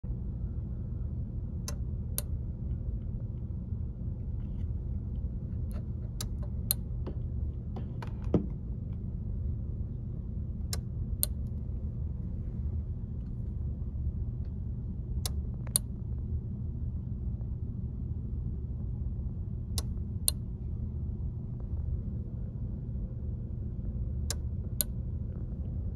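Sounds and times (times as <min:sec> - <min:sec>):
low rumbling noise: 0:00.0 - 0:25.9.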